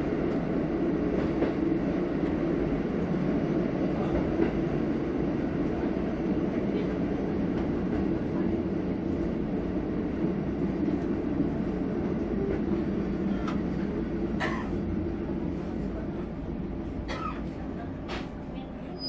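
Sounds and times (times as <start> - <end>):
diesel railcar rumble: 0.0 - 19.0.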